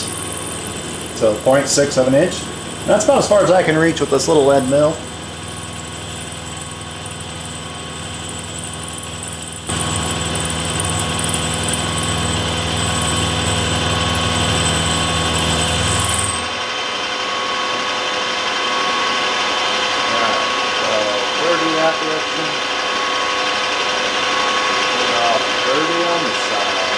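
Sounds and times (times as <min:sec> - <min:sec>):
milling machine whine: 0:00.0 - 0:26.9.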